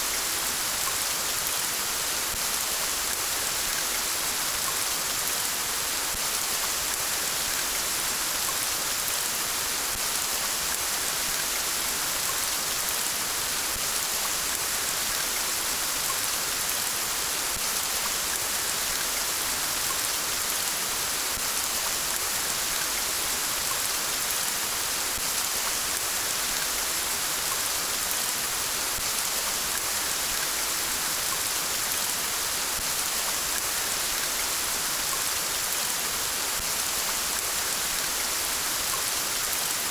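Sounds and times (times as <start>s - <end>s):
rain on surfaces: 0.0s - 39.9s.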